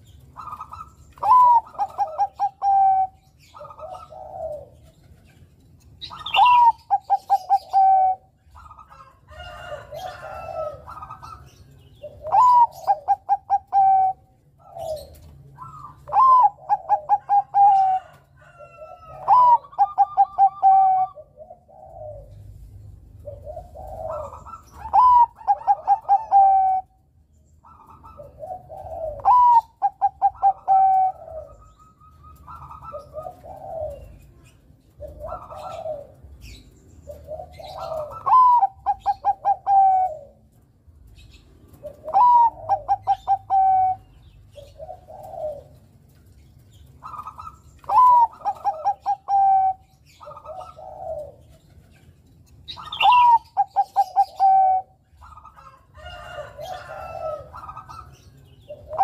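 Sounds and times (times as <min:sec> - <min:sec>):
dove cooing song: 0:00.0 - 0:59.0.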